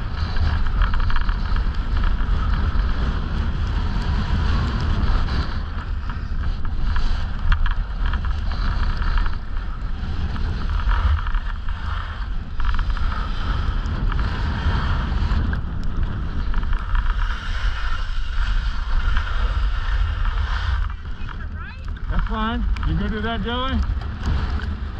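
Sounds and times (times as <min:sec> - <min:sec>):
skis sliding over packed snow: 0:00.0 - 0:24.9
wind buffeting microphone: 0:00.0 - 0:24.9.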